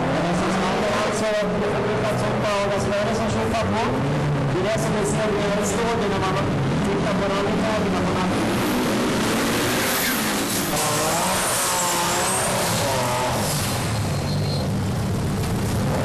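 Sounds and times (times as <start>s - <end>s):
car engines revving: 0.0s - 16.0s
loud engine noise: 0.0s - 16.0s.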